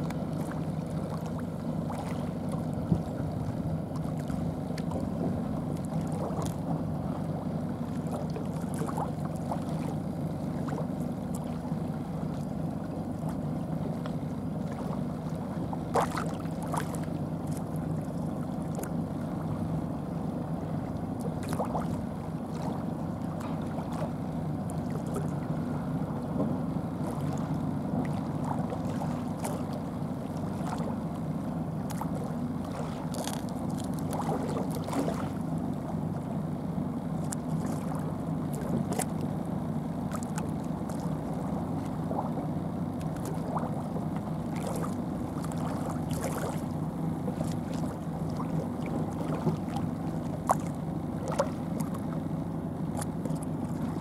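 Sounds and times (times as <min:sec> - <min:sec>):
low motor hum: 0:00.0 - 0:54.0.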